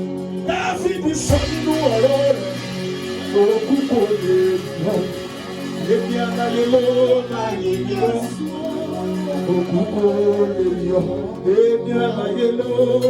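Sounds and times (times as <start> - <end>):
held low keyboard chords: 0.0 - 13.0
wavering guitar melody: 0.0 - 13.0.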